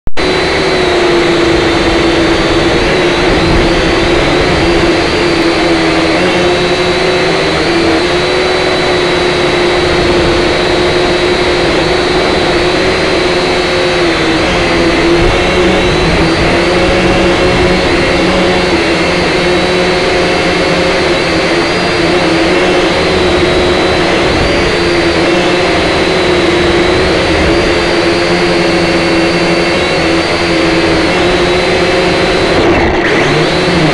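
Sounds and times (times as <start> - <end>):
drone motors and propellers whining: 0.1 - 33.9.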